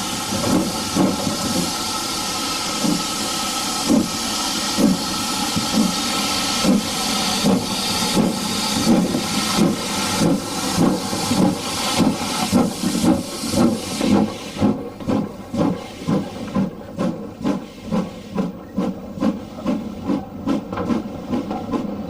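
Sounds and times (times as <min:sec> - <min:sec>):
steam hissing: 0:00.0 - 0:22.0
steam locomotive exhaust beats: 0:00.0 - 0:22.0.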